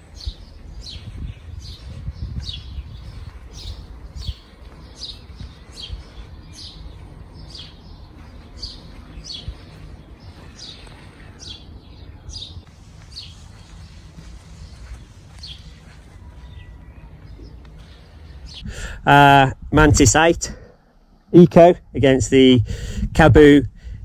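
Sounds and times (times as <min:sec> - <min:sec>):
bird chirping: 0:00.0 - 0:19.4
steady low rumble: 0:00.0 - 0:24.0.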